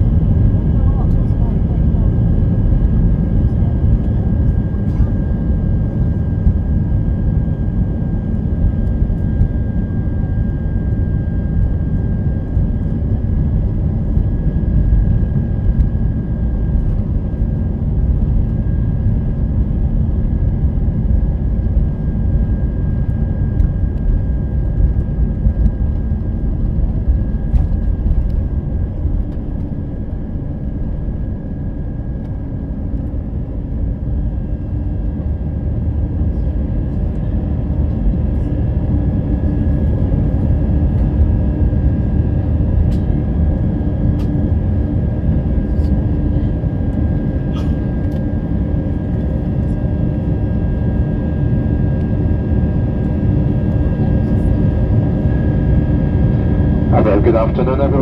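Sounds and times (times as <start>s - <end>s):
jet engines roaring in cabin: 0.0s - 58.0s.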